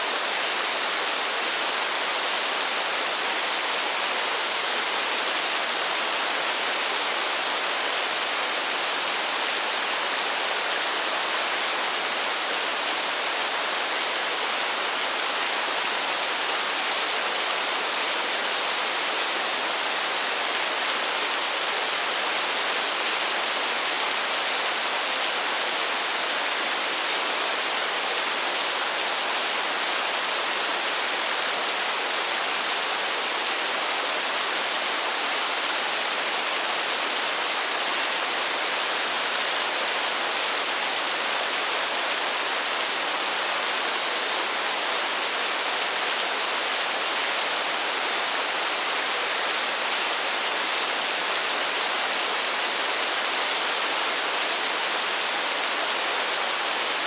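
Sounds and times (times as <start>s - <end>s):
rain falling in a forest: 0.0s - 57.0s.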